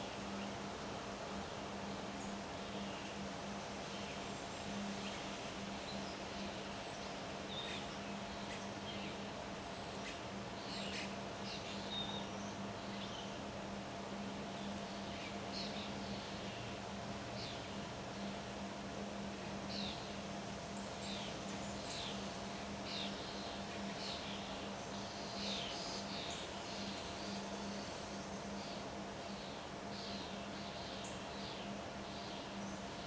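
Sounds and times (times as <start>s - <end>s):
outdoor background hiss: 0.0s - 33.0s.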